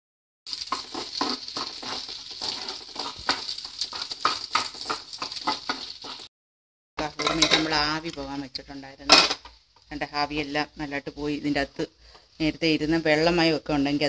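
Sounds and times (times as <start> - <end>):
spices sizzling in hot oil: 0.5 - 6.3, 7.0 - 14.0.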